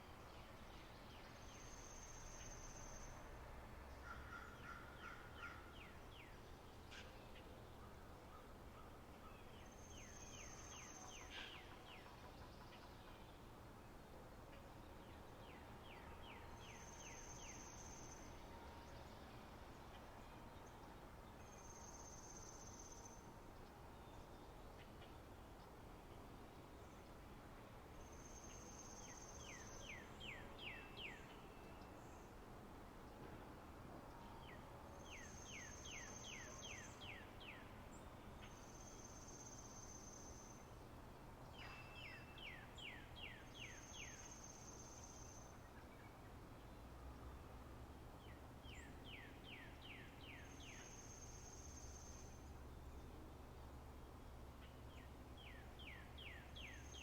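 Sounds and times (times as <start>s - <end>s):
songbirds singing: 4.0s - 27.2s, 27.8s - 32.4s, 34.4s - 57.0s.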